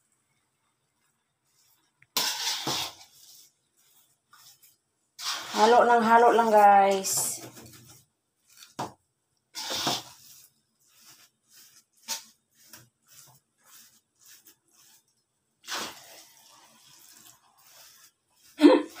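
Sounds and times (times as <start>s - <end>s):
metal spatula scraping wok: 2.1s - 8.0s, 9.6s - 19.0s.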